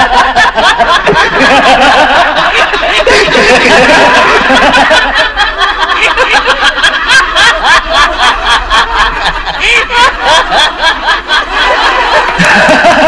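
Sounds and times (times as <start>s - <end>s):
men laughing heartily: 0.0s - 13.0s.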